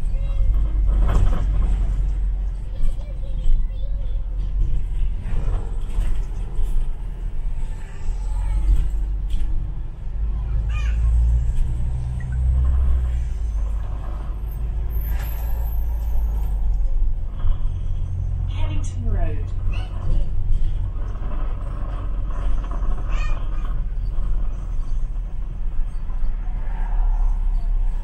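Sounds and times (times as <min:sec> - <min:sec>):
bus engine rumble: 0:00.0 - 0:28.0
road noise: 0:00.0 - 0:28.0.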